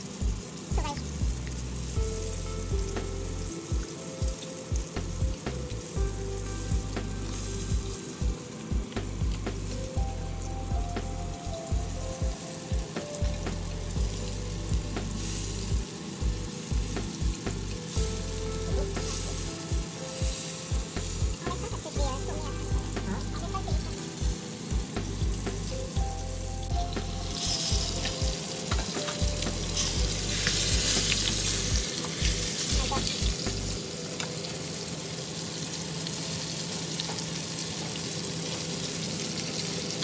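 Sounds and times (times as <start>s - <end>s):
background music with steady pulse: 0.0s - 40.0s
oil sizzling in frying pan: 0.0s - 40.0s.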